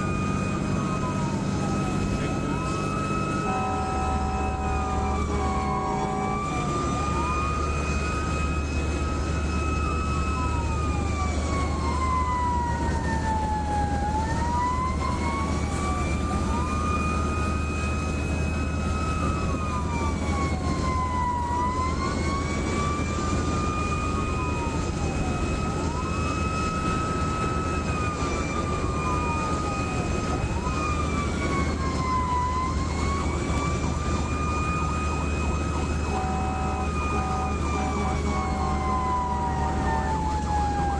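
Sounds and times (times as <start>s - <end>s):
fire truck siren wailing: 0.0s - 40.9s
low engine drone: 0.0s - 40.9s
second siren sweeping fast: 0.0s - 40.9s.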